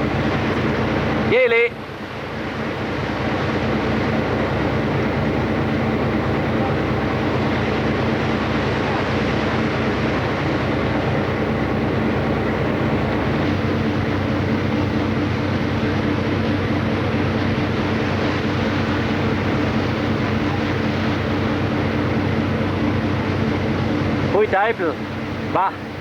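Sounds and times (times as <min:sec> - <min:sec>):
constant rushing noise: 0:00.0 - 0:26.0
ship engine hum: 0:00.0 - 0:26.0.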